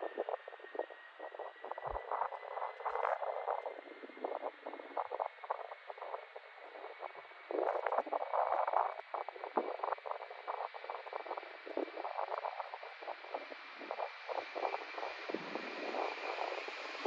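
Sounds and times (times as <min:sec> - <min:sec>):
faint steady whine: 0:00.0 - 0:17.0
radio hiss and crackle: 0:00.0 - 0:17.0.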